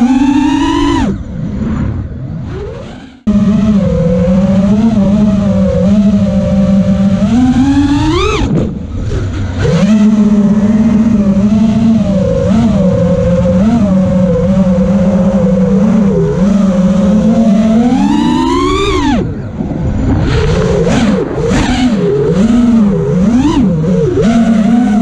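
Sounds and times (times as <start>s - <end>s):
quadcopter motors buzzing: 0.0s - 25.0s.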